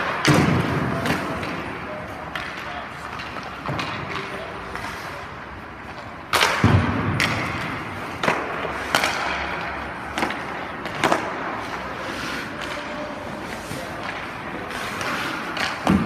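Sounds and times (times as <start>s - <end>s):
skate blades scraping ice: 1.2s - 6.6s, 7.9s - 16.0s.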